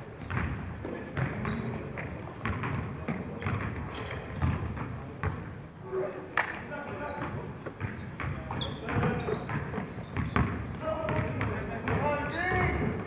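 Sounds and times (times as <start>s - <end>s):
sneakers squeaking on court: 0.0s - 13.0s.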